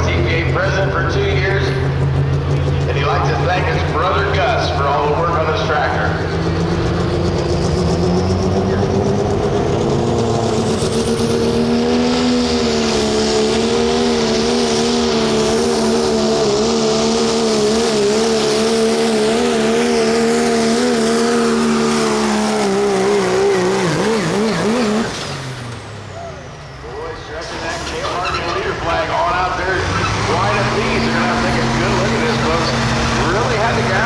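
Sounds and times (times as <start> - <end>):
diesel truck engine at full throttle: 0.0 - 34.0.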